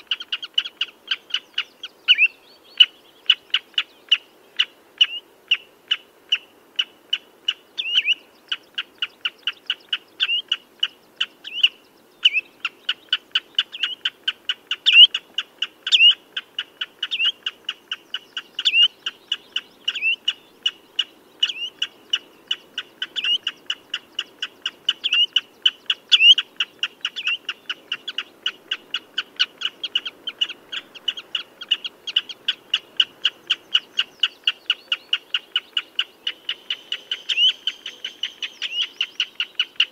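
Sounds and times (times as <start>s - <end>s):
redshank piping calls: 0.0s - 39.9s.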